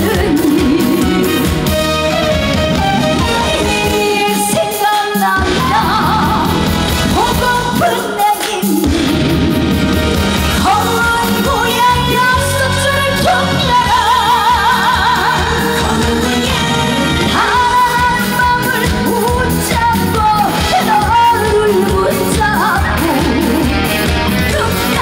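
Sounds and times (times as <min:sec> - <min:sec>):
woman singing with vibrato: 0:00.0 - 0:01.7, 0:03.2 - 0:09.5, 0:10.5 - 0:25.0
amplified band playing: 0:00.0 - 0:25.0.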